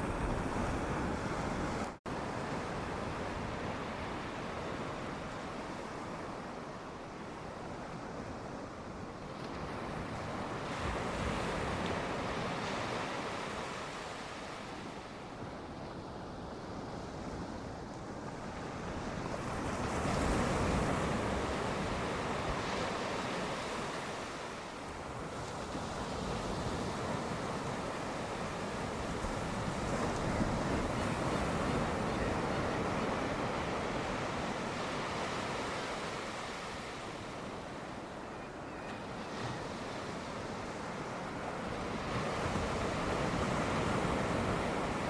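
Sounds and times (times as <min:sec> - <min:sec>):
sea waves breaking on shore: 0:00.0 - 0:45.0.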